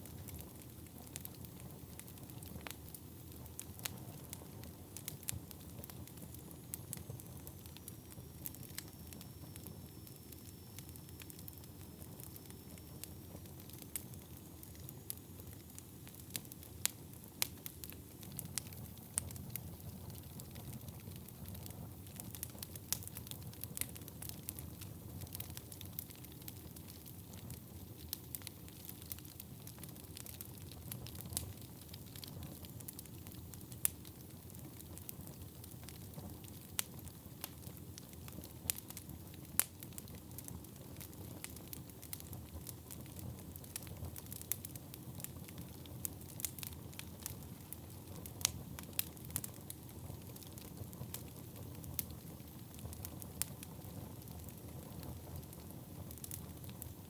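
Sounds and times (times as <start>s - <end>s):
fire crackling and popping: 0.0s - 57.0s
rumble of fire flames: 0.0s - 57.0s.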